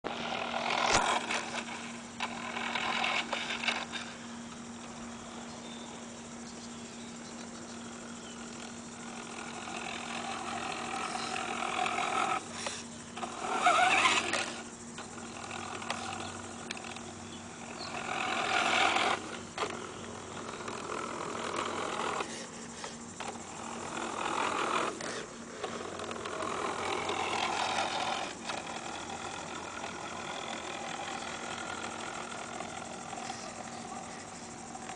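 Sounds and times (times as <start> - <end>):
toy truck motor whining: 0.0 - 6.0, 7.4 - 34.9.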